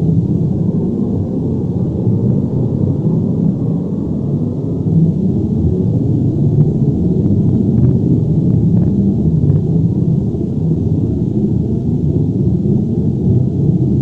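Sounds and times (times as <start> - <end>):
deep low rumble: 0.0 - 14.0.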